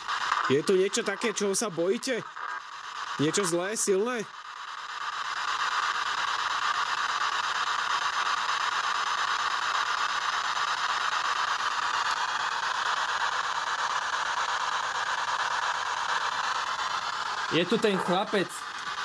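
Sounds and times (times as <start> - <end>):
steady static hiss: 0.0 - 19.0.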